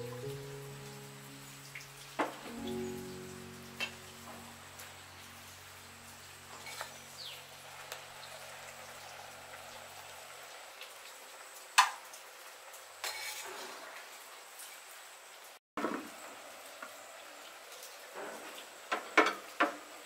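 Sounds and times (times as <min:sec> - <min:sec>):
water boiling in a pot: 0:03.9 - 0:20.0.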